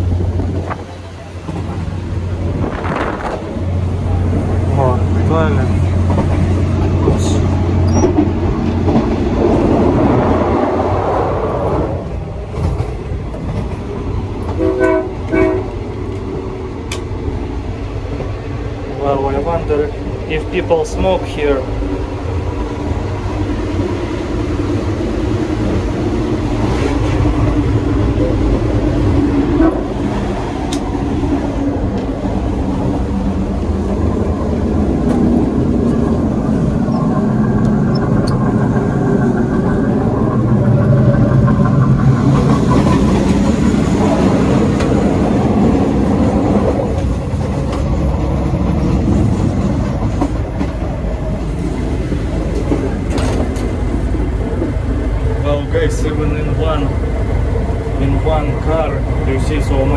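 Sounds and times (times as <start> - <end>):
train car rumbling and rattling: 0.0 - 59.9.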